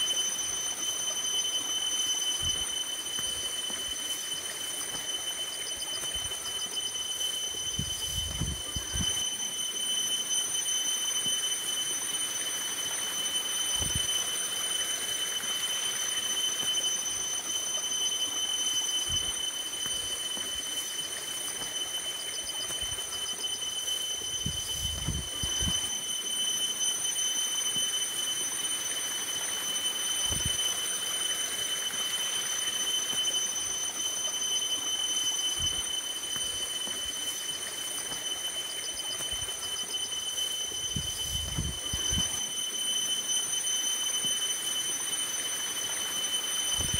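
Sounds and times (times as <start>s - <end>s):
high-pitched whine: 0.0s - 46.9s
hose water running into basin: 0.0s - 46.9s.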